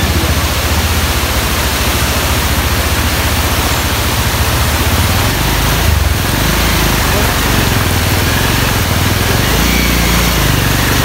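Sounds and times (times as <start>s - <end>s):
small motorcycle engine: 0.0s - 11.0s
water rushing over rock: 0.0s - 11.0s.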